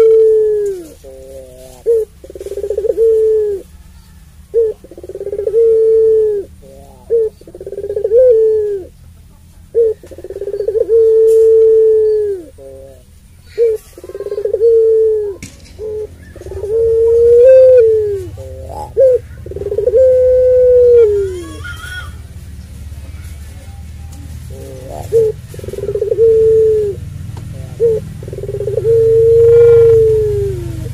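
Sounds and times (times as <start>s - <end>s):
dove cooing: 0.0s - 30.9s.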